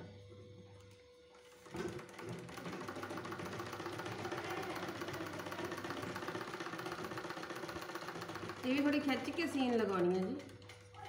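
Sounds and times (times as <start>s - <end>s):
sewing machine needle clatter: 1.4s - 11.0s.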